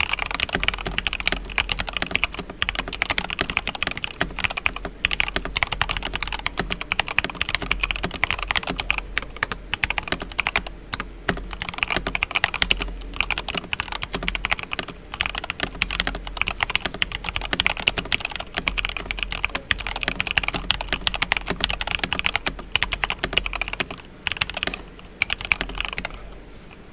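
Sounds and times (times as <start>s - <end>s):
mechanical keyboard typing: 0.0s - 26.8s.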